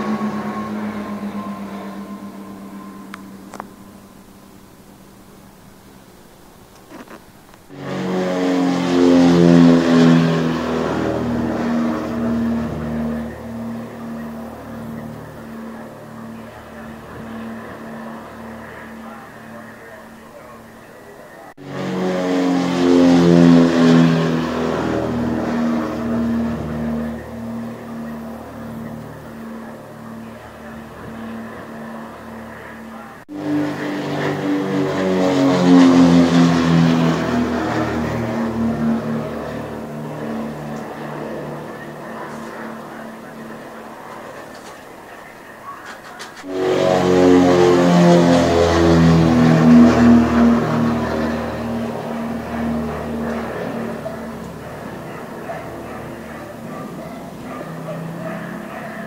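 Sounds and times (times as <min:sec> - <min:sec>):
propeller plane flying overhead: 0:00.0 - 0:59.0.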